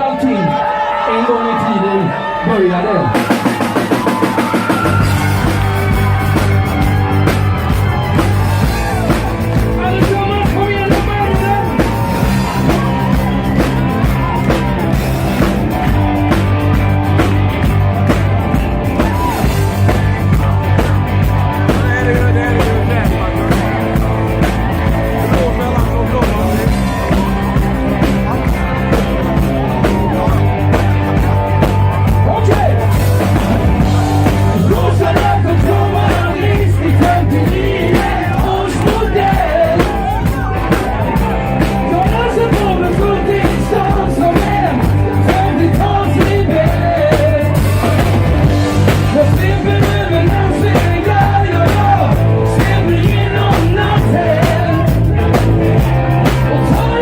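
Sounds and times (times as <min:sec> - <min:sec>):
live band music: 0:03.0 - 0:57.0.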